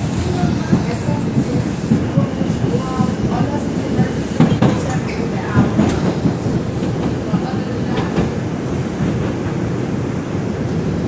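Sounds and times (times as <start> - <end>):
rail joint clicks: 0.0 - 11.0
subway wheels rumbling on track: 0.0 - 11.0.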